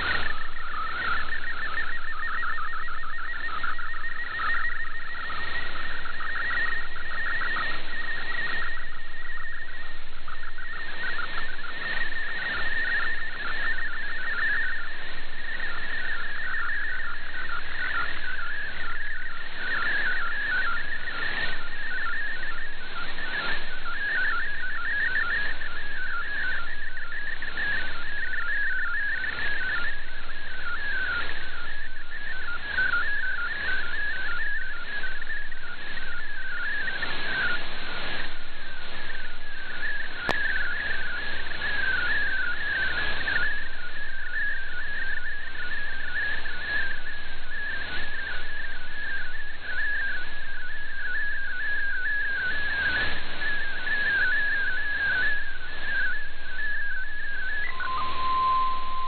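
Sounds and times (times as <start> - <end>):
digital data signal warbling: 0.0 - 59.0
radio static hiss: 0.0 - 59.0.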